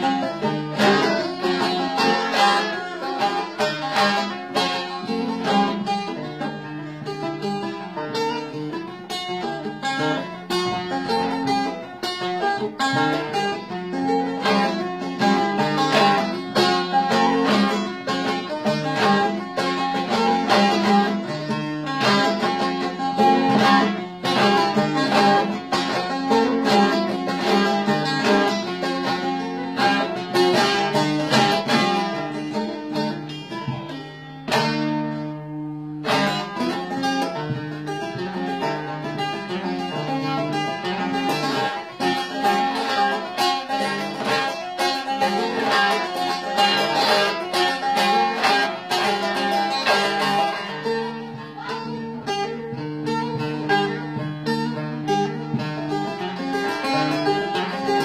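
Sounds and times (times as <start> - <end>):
long-necked lute plucked melody: 0.0 - 58.0.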